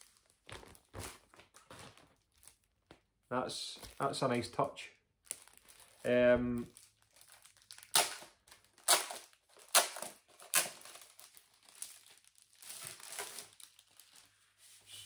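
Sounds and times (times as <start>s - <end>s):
plastic sleeve crinkling: 0.0s - 14.8s.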